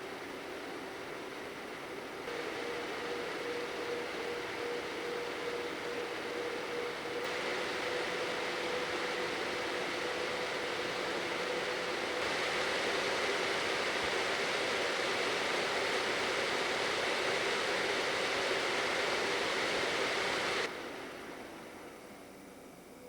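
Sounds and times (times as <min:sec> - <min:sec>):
cooling fans rushing with whine: 0:00.0 - 0:23.0
faint hiss: 0:00.0 - 0:23.0.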